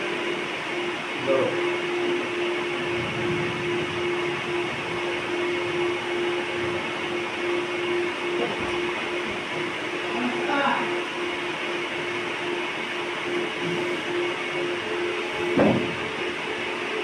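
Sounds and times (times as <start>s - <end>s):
held electric tone: 0.0s - 17.0s
steady electric hum: 0.0s - 17.0s.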